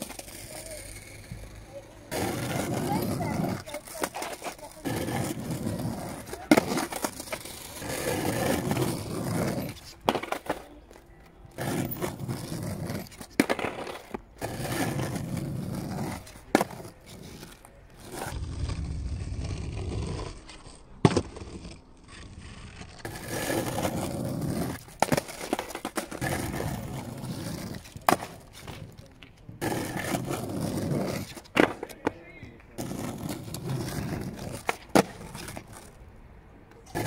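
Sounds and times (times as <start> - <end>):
skateboard clacking on ground: 0.0 - 36.0, 36.6 - 37.0
skateboard wheels rolling on asphalt: 0.0 - 37.0.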